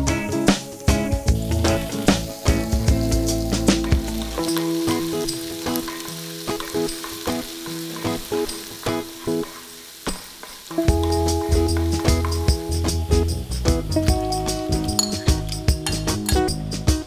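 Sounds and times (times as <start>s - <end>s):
background music: 0.0s - 17.0s
garlic sizzling in hot oil: 0.0s - 17.0s.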